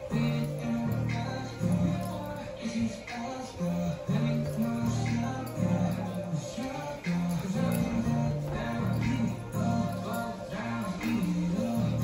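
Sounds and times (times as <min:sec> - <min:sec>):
song with low melody: 0:00.0 - 0:12.0.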